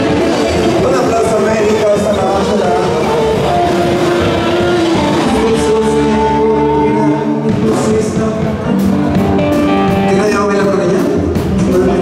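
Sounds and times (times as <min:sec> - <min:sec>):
drums: 0:00.0 - 0:12.0
electric guitars: 0:00.0 - 0:12.0
man singing into a microphone: 0:00.8 - 0:09.0, 0:10.1 - 0:12.0.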